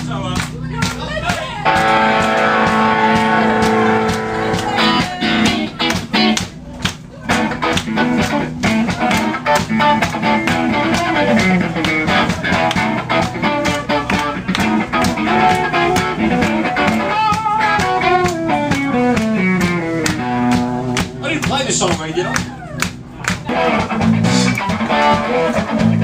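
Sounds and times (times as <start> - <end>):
steady drum beat: 0.0 - 26.0
electric guitar lead line: 1.5 - 26.0.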